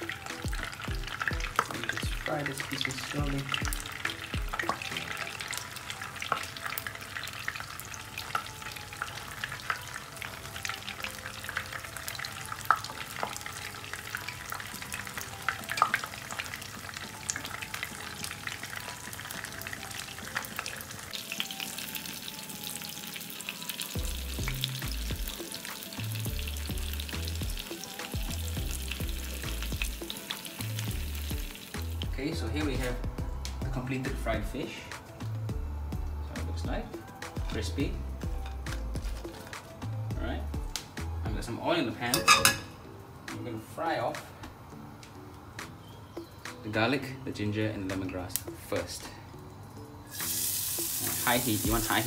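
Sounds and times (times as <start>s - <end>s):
fish frying in hot oil: 0.0s - 35.2s, 36.7s - 44.1s, 50.0s - 52.0s.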